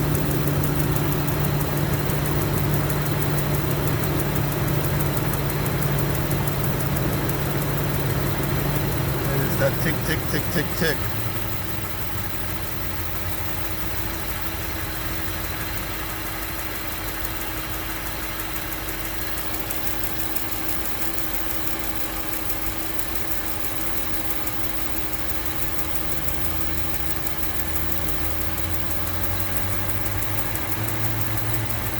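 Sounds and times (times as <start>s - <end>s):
car engine idling: 0.0s - 31.9s
rapid engine ticking: 0.0s - 31.9s.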